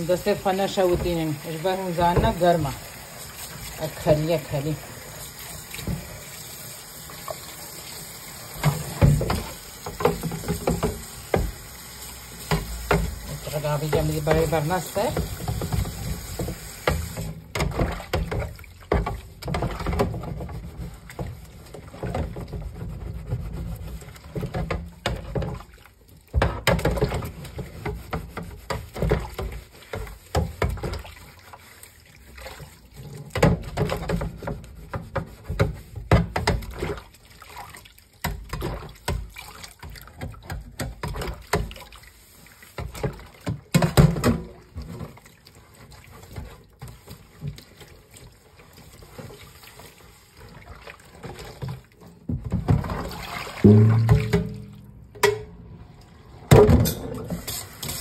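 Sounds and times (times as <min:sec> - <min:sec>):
sponge scrubbing plastic basket: 0:00.0 - 0:54.9, 0:57.2 - 0:58.0
water sloshing and splashing: 0:00.0 - 0:58.0.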